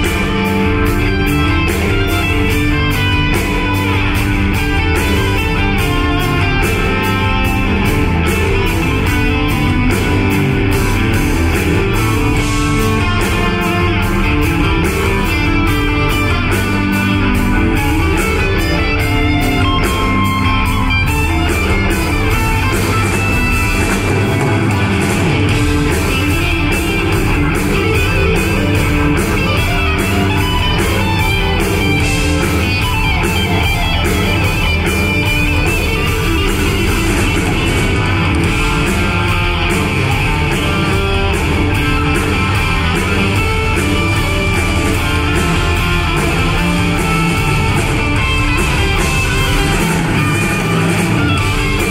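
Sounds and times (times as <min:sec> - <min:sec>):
drum beat: 0:00.0 - 0:51.9
electric guitar: 0:00.0 - 0:51.9
live rock band playing: 0:00.0 - 0:51.9.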